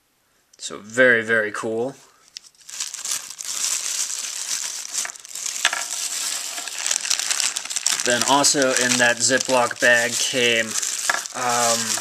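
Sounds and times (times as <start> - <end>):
plastic bags crinkling: 2.3 - 12.0.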